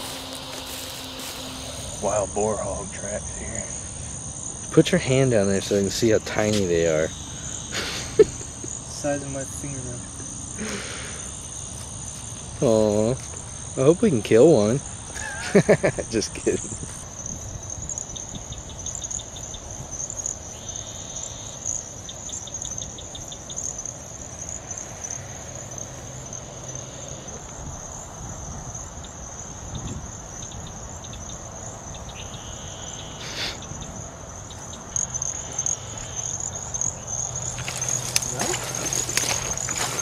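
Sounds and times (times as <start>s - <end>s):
crickets trilling: 0.0s - 40.0s
rapid insect chirping: 0.0s - 40.0s.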